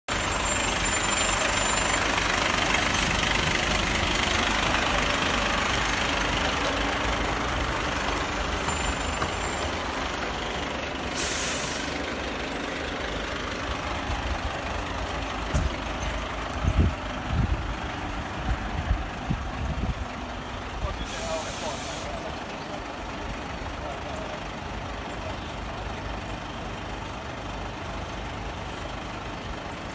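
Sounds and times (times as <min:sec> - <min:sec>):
diesel engine running: 0:00.1 - 0:29.9.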